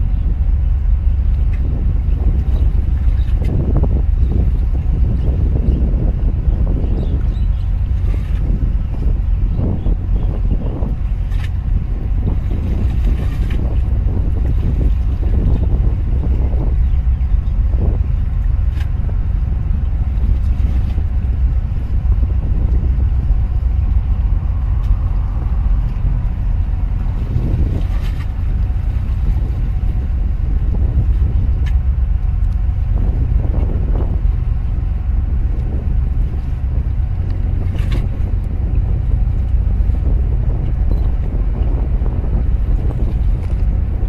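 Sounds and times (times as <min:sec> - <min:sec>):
boat engine rumbling: 0:00.0 - 0:44.0.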